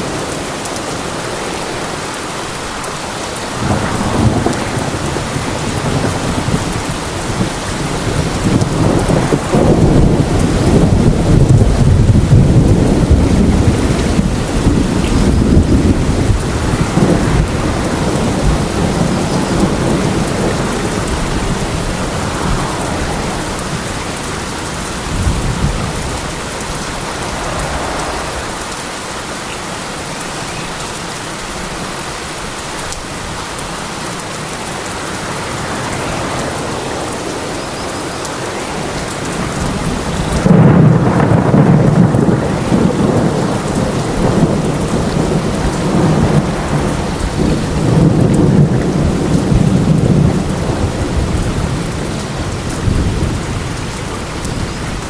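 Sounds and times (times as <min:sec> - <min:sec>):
steady rain: 0:00.0 - 0:55.0
rolling thunder: 0:03.4 - 0:29.6, 0:35.3 - 0:55.0.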